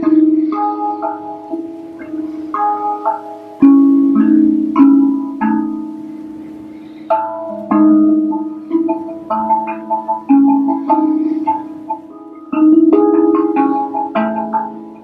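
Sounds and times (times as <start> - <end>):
steel tongue drum melody: 0.0 - 15.0.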